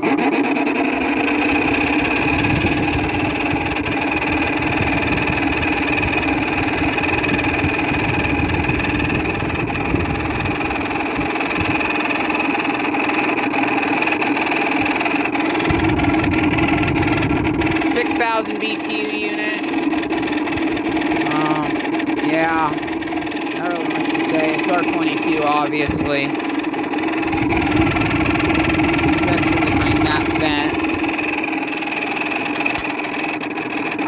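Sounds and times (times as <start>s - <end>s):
window air conditioner running: 0.0s - 34.0s.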